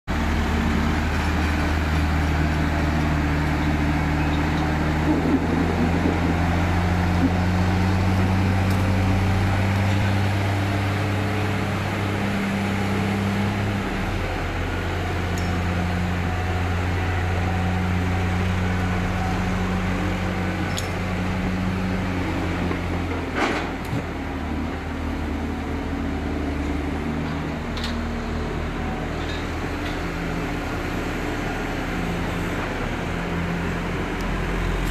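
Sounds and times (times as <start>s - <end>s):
tractor diesel engine: 0.1s - 34.9s.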